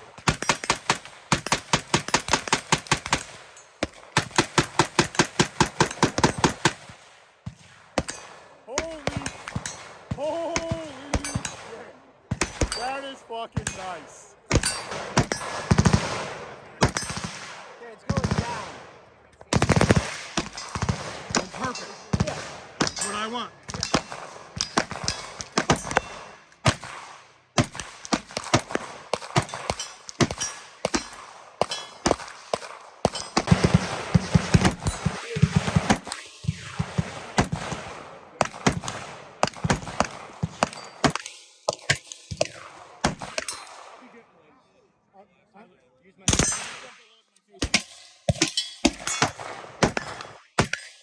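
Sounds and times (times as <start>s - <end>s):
rifle shots: 0.0s - 44.2s, 46.3s - 51.0s.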